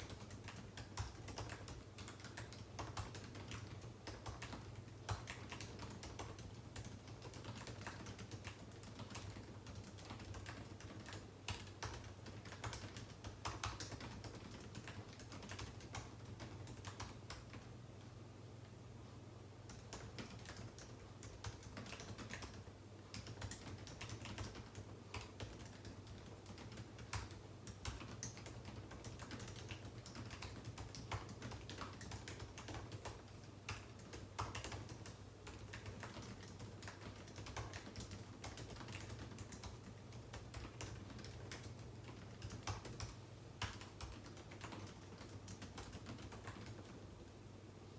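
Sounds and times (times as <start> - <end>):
typing on computer keyboard: 0.0 - 17.7, 19.6 - 47.2
low steady hum: 0.0 - 47.9.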